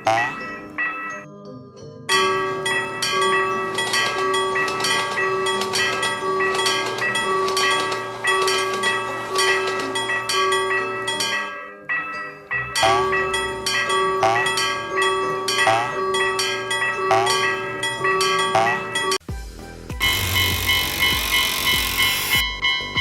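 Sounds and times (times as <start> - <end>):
railroad crossing bell dinging: 0.0 - 1.3, 2.1 - 19.2, 20.0 - 23.0.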